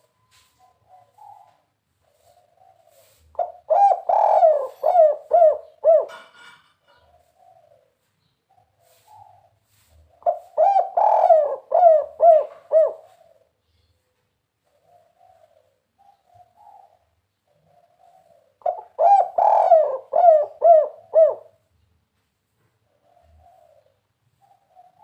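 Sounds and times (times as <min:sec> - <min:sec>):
dove cooing: 0:00.0 - 0:21.8, 0:22.8 - 0:25.0.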